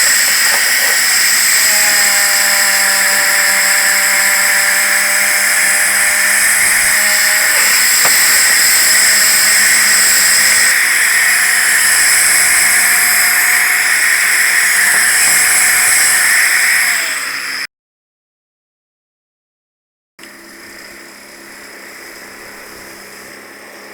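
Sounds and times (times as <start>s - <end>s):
power tool running with hiss: 0.0s - 17.7s, 20.2s - 23.9s.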